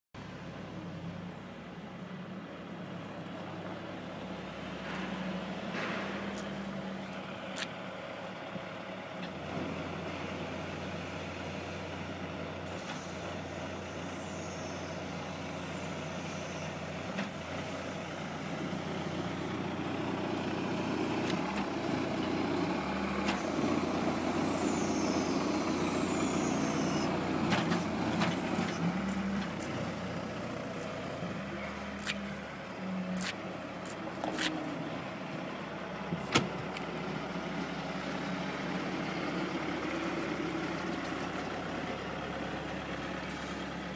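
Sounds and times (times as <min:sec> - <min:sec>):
loader engine drone: 0:00.2 - 0:43.9.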